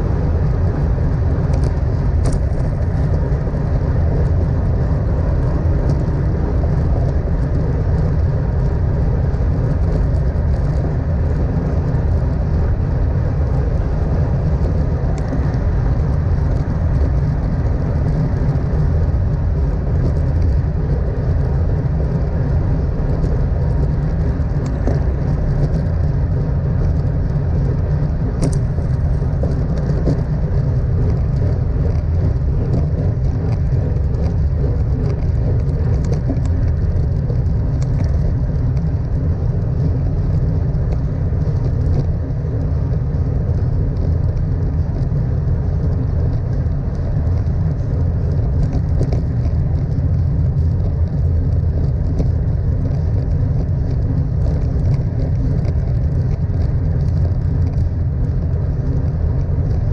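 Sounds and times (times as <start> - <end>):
bike tyre and road noise: 0.0 - 59.9
wind buffeting microphone: 0.0 - 59.9.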